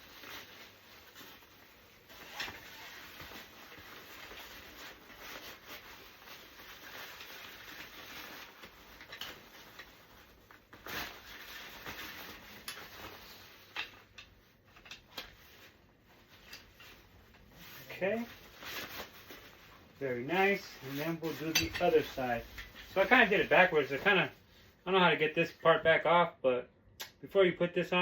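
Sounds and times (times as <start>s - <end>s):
rustling and handling of parts: 0.0s - 24.9s.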